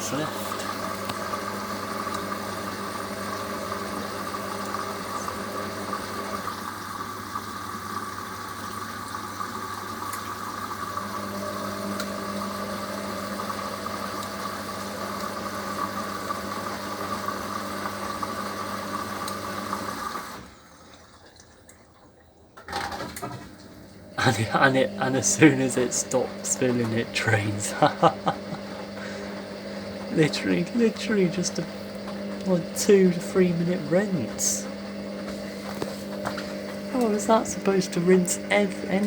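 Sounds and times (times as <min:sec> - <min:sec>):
washer dryer motor whine: 0:00.0 - 0:21.1, 0:22.7 - 0:39.0.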